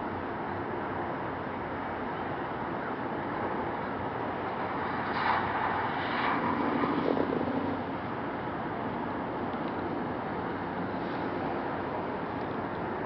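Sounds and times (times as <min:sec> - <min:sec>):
distant city traffic hum: 0:00.0 - 0:13.0.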